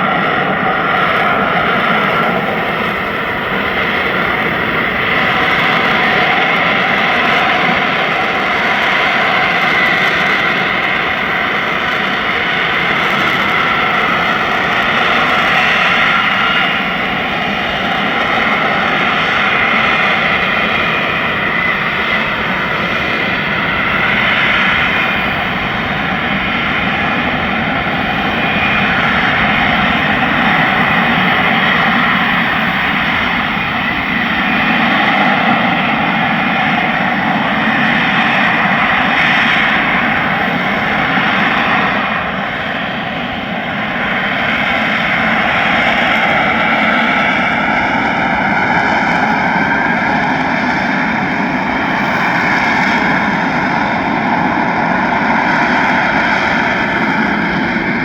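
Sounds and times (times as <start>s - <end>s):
jet engine roaring overhead: 0.0s - 58.0s.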